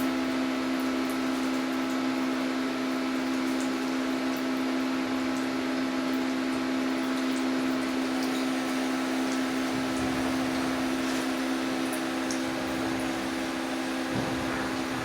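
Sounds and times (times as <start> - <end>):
mechanical hum with steady tones: 0.0 - 15.0.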